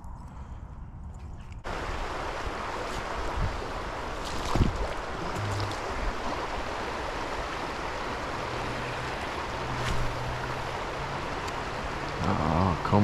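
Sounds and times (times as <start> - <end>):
creek water rippling: 1.6 - 13.0.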